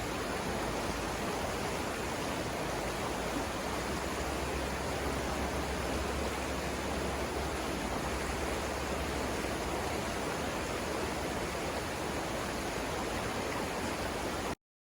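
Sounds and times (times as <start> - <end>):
river rushing over rapids: 0.0 - 14.6.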